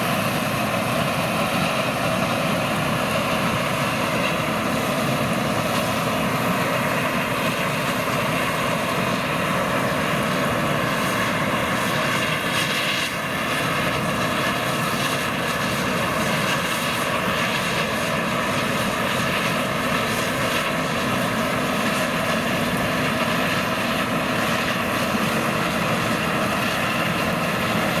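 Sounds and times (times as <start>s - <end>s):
machinery droning: 0.0s - 28.0s.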